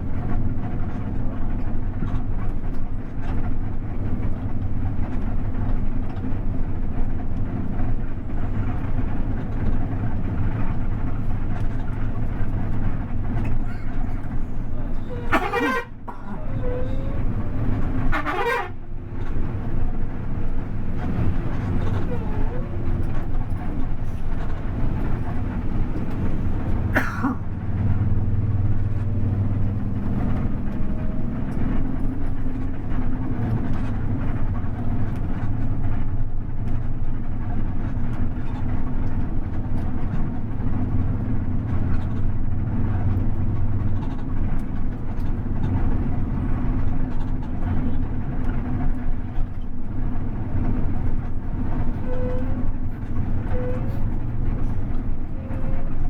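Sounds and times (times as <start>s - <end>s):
bus engine and road noise: 0.0s - 56.0s.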